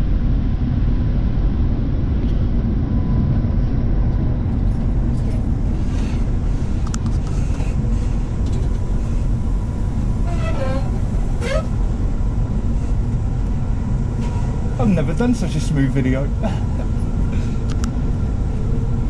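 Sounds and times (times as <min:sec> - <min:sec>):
train rumbling inside coach: 0:00.0 - 0:19.0.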